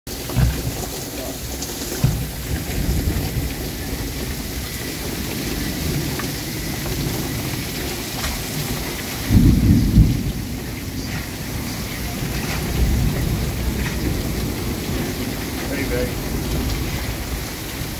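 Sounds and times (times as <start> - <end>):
heavy rain pouring: 0.1 - 17.9
thunder rumbling: 0.1 - 17.9.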